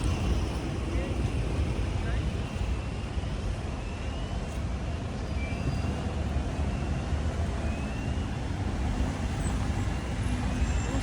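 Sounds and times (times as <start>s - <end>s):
passing vehicles rumbling: 0.0s - 11.0s.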